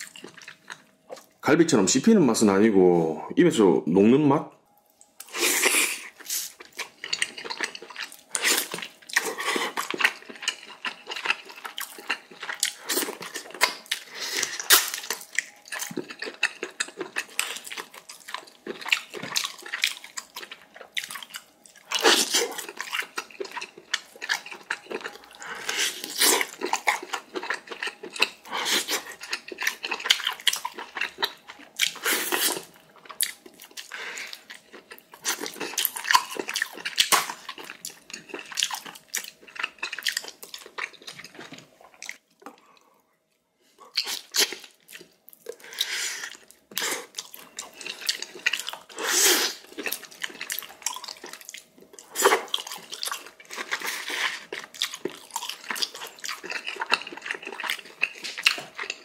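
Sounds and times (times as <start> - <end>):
wet chewing and slurping: 4.9 - 42.9, 43.8 - 59.0.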